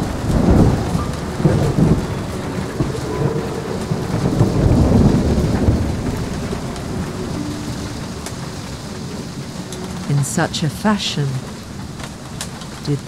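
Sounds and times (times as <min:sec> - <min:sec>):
low rolling thunder rumble: 0:00.0 - 0:12.9
faint rain hiss: 0:00.0 - 0:13.0.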